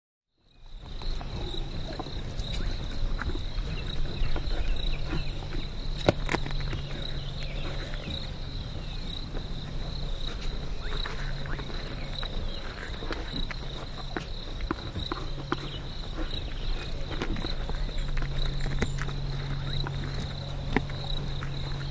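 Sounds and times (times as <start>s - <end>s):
high insect trill: 0.5s - 21.9s
lions chewing and tearing meat: 0.6s - 21.9s
low hum: 0.6s - 21.9s.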